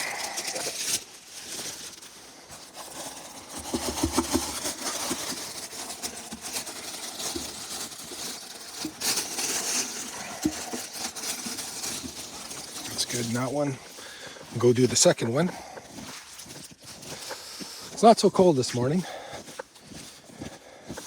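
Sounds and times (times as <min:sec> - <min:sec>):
rustling and crackling handling: 0:00.0 - 0:21.0.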